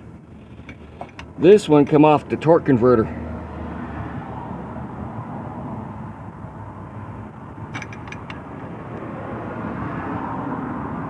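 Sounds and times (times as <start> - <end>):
outdoor background rumble: 0.0 - 11.0.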